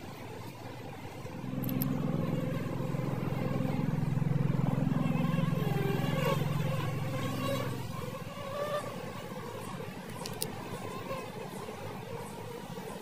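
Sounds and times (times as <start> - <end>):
honey bees buzzing: 0.9 - 13.0.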